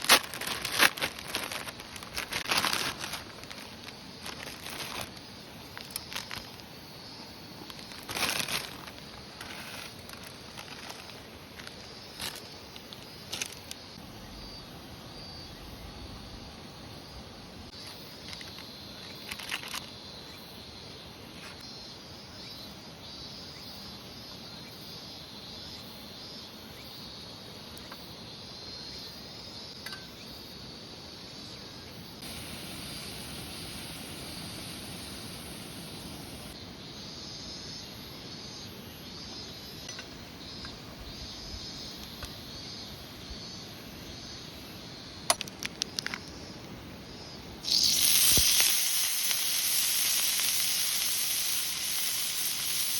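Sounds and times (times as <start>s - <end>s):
insects chirping: 0.0s - 52.9s.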